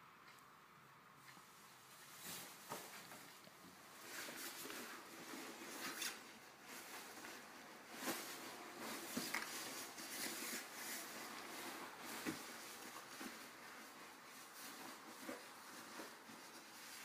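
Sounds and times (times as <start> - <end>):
fabric rustling and scraping: 1.2 - 17.0.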